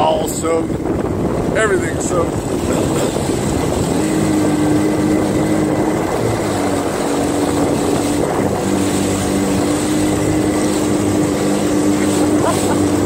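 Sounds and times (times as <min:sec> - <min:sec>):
jet ski engine running: 0:00.0 - 0:13.0
rushing wind: 0:00.0 - 0:13.0
water noise: 0:00.0 - 0:13.0.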